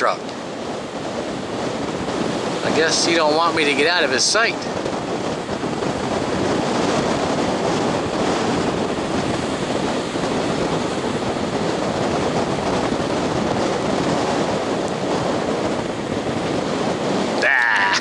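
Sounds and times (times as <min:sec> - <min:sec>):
surf rushing: 0:00.0 - 0:18.0
wind on microphone: 0:00.0 - 0:18.0.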